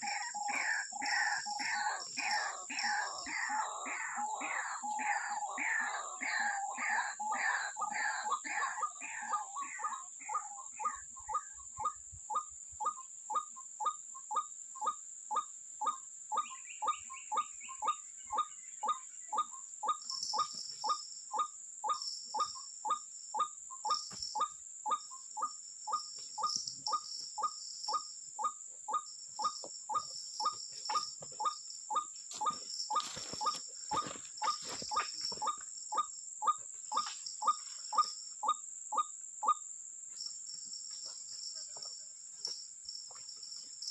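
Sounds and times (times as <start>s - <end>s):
bird calling: 0.0s - 39.6s
insects buzzing: 0.0s - 43.9s.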